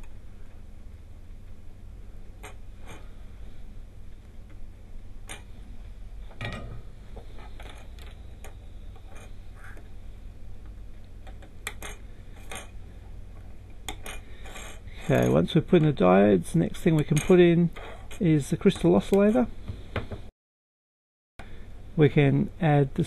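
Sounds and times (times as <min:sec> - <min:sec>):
low steady hum: 0:00.0 - 0:20.3, 0:21.4 - 0:23.0.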